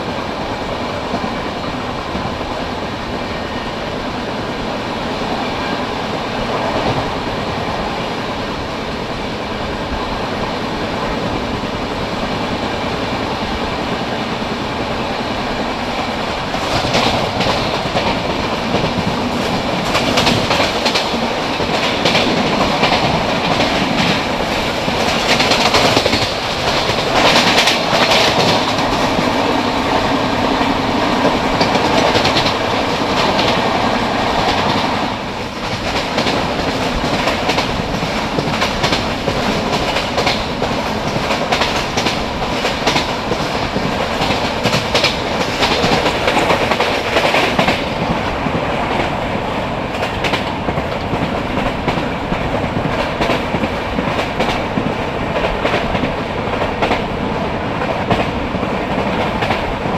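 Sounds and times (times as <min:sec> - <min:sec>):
rail joints clickety-clack: 0:00.0 - 0:59.9
train wheels rumbling: 0:00.0 - 0:59.9.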